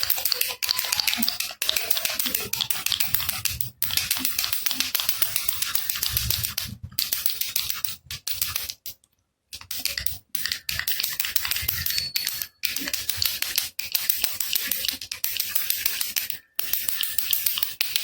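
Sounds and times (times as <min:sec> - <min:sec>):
baby rattle shaken: 0:00.0 - 0:08.7, 0:09.6 - 0:17.8.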